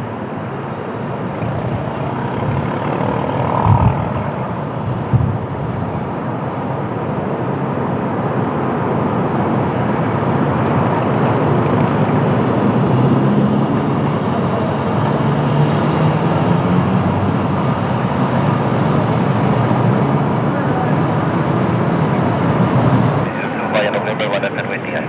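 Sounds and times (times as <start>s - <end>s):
jet airliner engines: 0.0s - 23.4s.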